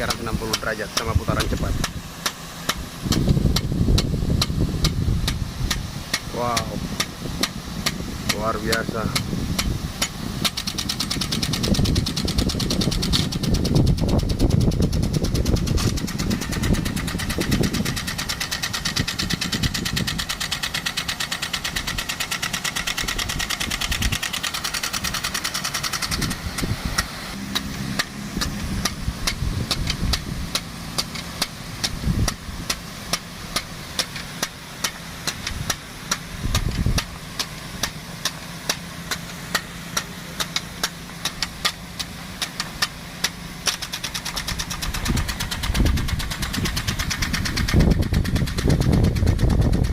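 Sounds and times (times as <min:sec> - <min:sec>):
sprinkler arm clicking: 0:00.0 - 0:49.9
water pump engine running: 0:00.0 - 0:49.9.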